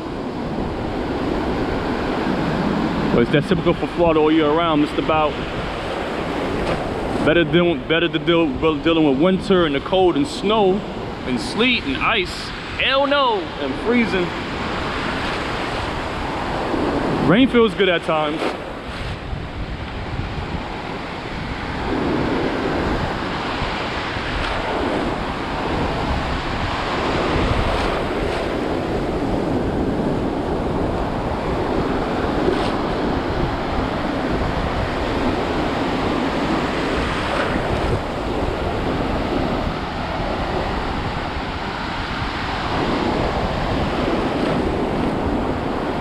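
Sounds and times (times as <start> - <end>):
ocean surf breaking: 0.0 - 46.0
wind buffeting microphone: 0.0 - 46.0.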